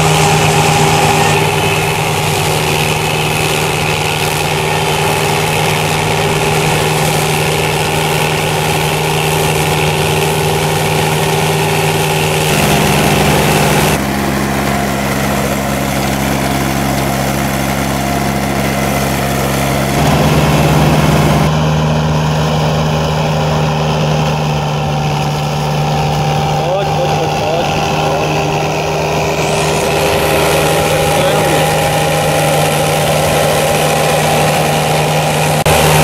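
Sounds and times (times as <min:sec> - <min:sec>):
tracked mulcher engine running: 0:00.0 - 0:36.0.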